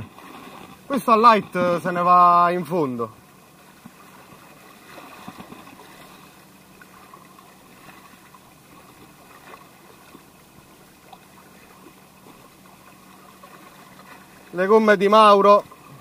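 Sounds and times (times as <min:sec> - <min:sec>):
water lapping among rocks: 0:00.0 - 0:02.6, 0:03.2 - 0:16.0
steady low hum: 0:00.0 - 0:16.0.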